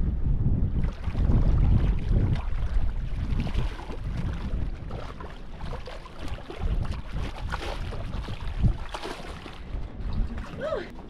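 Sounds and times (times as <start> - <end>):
wind rumbling on microphone: 0.0 - 11.0
water sloshing and splashing: 0.7 - 11.0.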